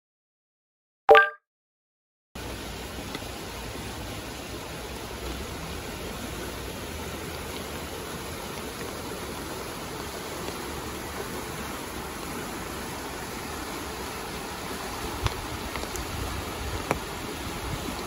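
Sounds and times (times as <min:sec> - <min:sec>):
floodwater rushing: 0:02.4 - 0:18.0.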